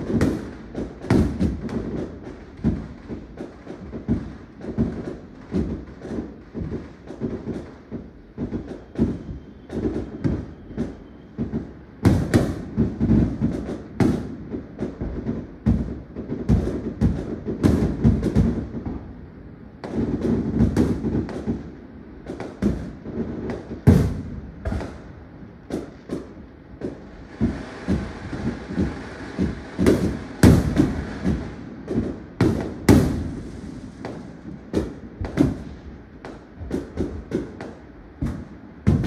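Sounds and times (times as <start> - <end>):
continuous rumble: 0.0 - 39.0
fireworks bangs and crackles: 0.0 - 39.0.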